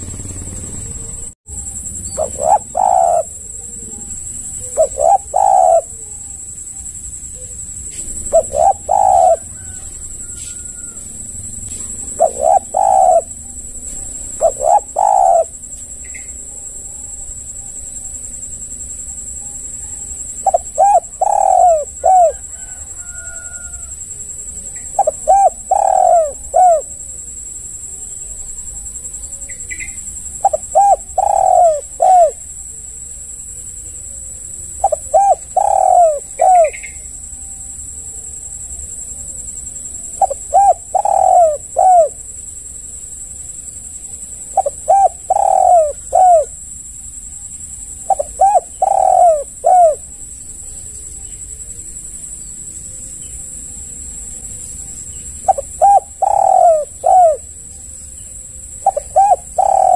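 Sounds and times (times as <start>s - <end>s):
dove cooing: 0.0s - 18.8s, 19.7s - 33.6s, 34.8s - 37.1s, 38.4s - 42.4s, 44.0s - 46.6s, 47.7s - 51.8s, 54.4s - 59.9s
high-pitched hum: 0.0s - 22.8s, 23.8s - 59.9s.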